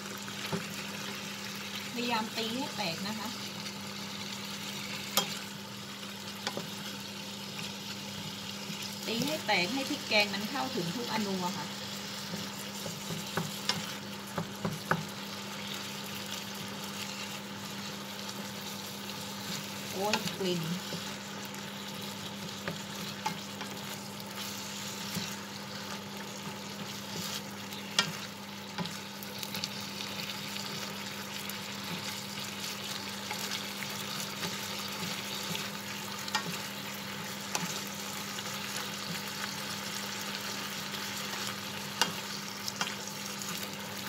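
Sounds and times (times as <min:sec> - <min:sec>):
meat sizzling in a frying pan: 0:00.0 - 0:44.0.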